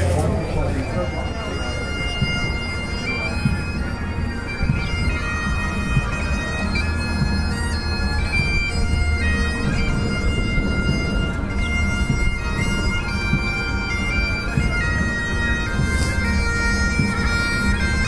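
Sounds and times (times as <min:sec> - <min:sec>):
bagpipes playing: 0:00.0 - 0:18.0.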